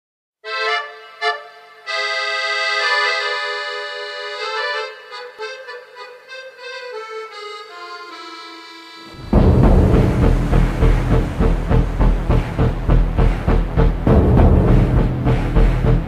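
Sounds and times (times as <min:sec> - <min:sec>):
accordion music: 0:00.4 - 0:16.0.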